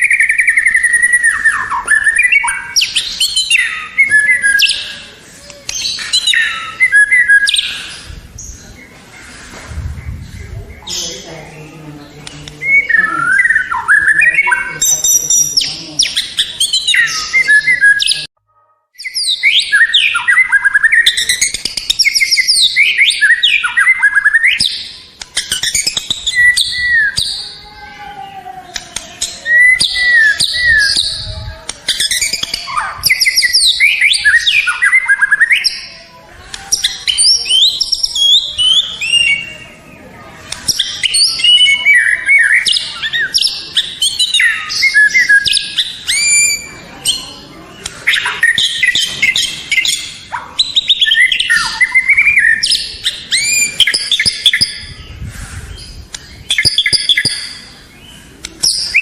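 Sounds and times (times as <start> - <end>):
bird singing whistles and trills: 0.0 - 8.7, 12.6 - 18.3, 19.0 - 27.6, 29.2 - 36.0, 40.6 - 59.0.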